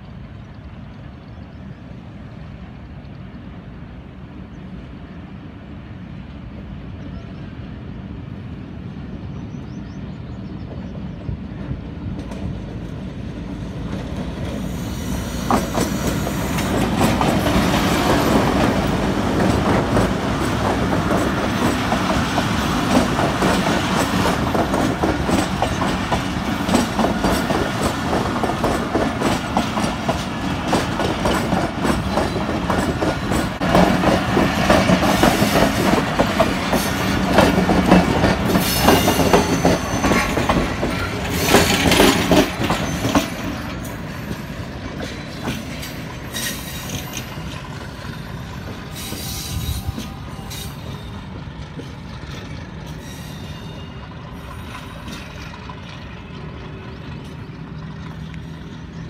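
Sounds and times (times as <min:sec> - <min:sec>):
train wheels clattering over rails: 0:10.7 - 0:59.0.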